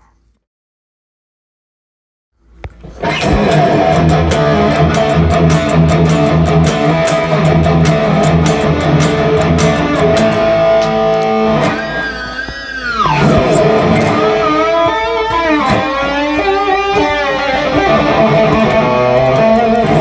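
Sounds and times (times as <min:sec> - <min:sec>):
electric guitar playing rock licks: 0:02.8 - 0:20.0.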